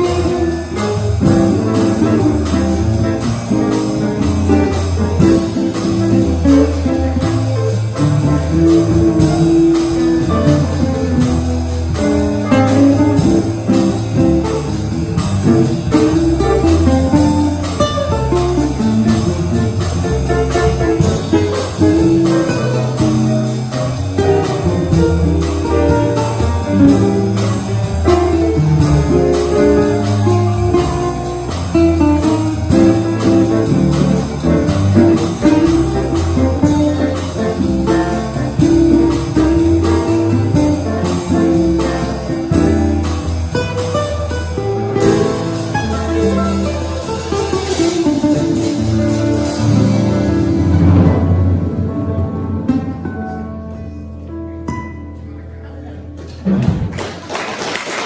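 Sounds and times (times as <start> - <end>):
bass notes: 0.0 - 58.0
guitar: 0.0 - 58.0
jazz quartet playing bossa nova: 0.0 - 58.0.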